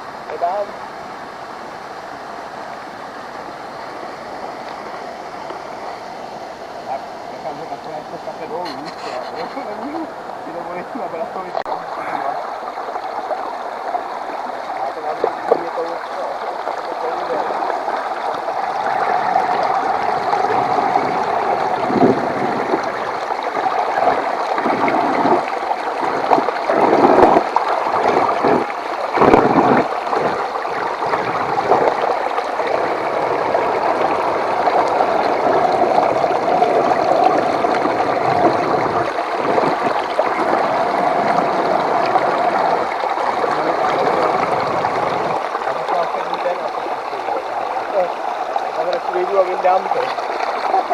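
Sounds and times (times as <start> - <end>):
loud water splashes: 0.0 - 50.9
water churning and gurgling: 0.0 - 50.9.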